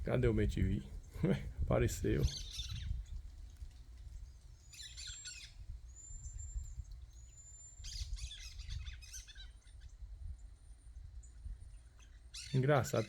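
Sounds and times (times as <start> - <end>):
birds calling harshly: 0.0 - 3.6, 4.2 - 10.0, 11.8 - 13.0.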